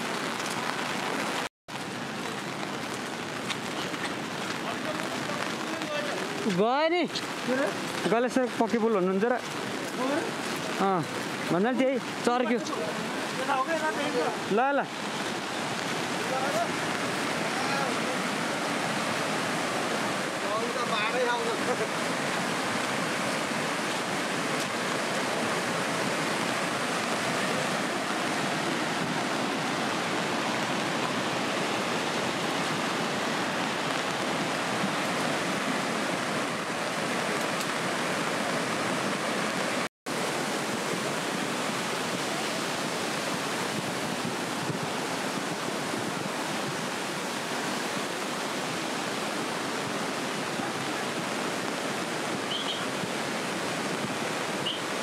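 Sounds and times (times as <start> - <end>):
river in flood rushing: 0.0 - 55.0.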